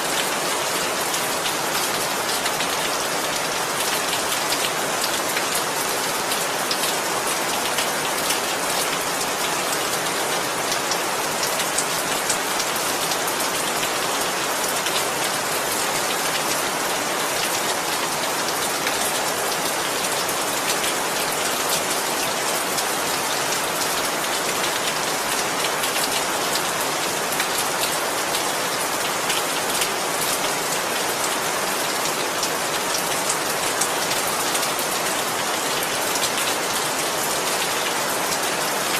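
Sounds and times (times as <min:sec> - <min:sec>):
rain pattering on a surface: 0:00.0 - 0:38.9.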